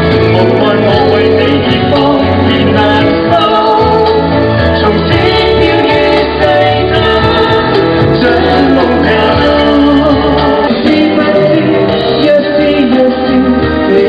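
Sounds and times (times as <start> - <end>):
live band playing: 0.0 - 14.0
man and woman singing: 0.0 - 14.0.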